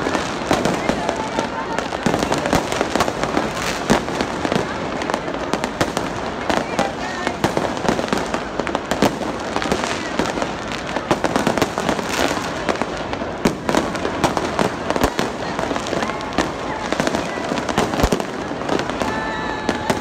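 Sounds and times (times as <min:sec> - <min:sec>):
fireworks bangs and pops: 0:00.0 - 0:20.0
loud firework booms: 0:00.0 - 0:20.0.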